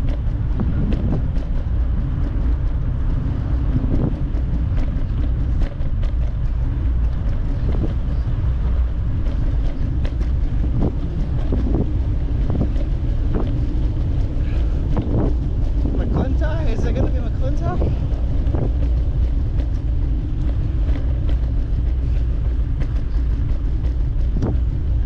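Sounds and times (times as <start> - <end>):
faint clicks and ticks: 0.0 - 25.0
wind buffeting microphone: 0.0 - 25.0.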